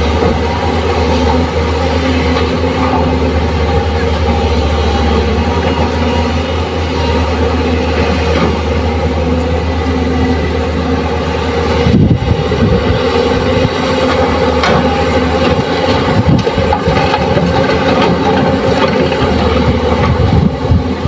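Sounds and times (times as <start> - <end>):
excavator diesel engine under load: 0.0 - 21.0.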